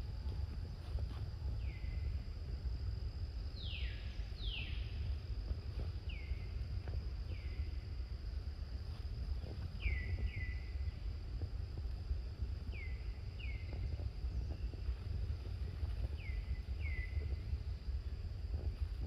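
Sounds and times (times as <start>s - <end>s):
low rumble: 0.0s - 19.0s
thin high insect hum: 0.0s - 19.0s.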